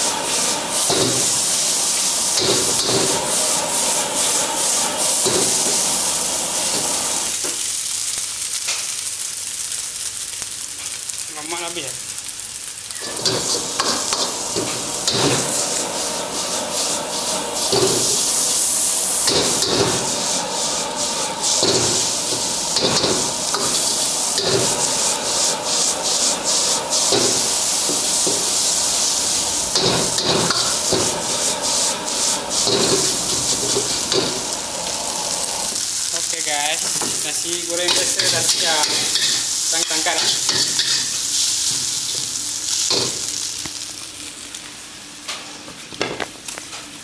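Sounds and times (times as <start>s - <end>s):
sizzle of frying: 0.0s - 47.0s.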